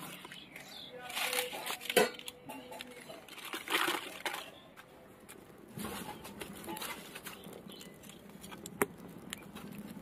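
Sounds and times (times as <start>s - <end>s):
dry leaves and sticks crackling: 0.0s - 10.0s.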